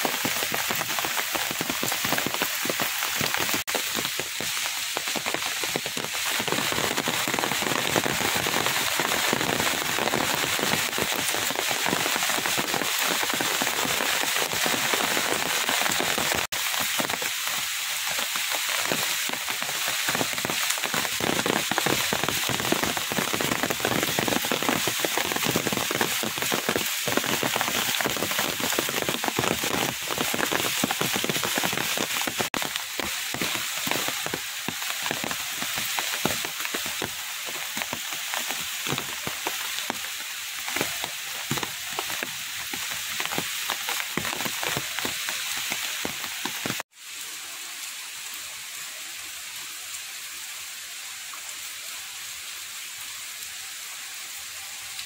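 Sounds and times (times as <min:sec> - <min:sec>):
rain on leaves and water: 0:00.0 - 0:55.0.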